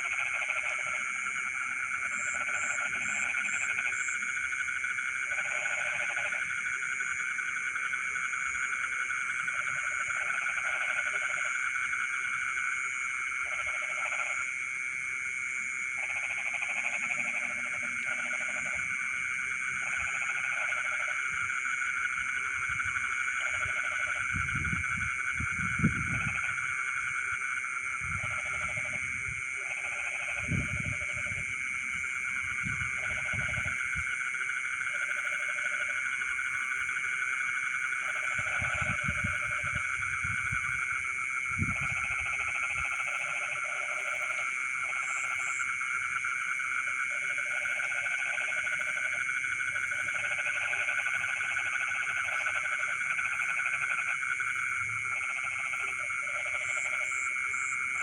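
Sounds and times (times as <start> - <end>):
frogs croaking: 0.0 - 58.0
frogs trilling: 0.0 - 58.0.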